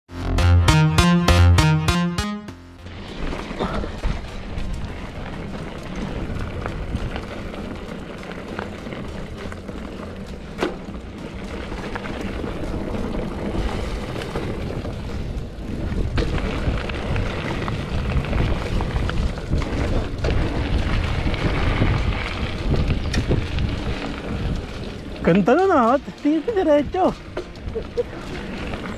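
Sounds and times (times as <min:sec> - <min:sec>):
bike clicks and rattles: 0:02.8 - 0:28.9
wind rumbling on microphone: 0:02.8 - 0:28.9.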